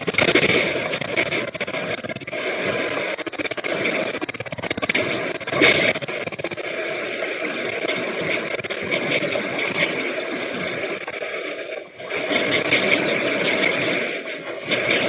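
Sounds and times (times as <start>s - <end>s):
earthquake rumble: 0.0s - 15.0s
loud clatter: 0.0s - 15.0s.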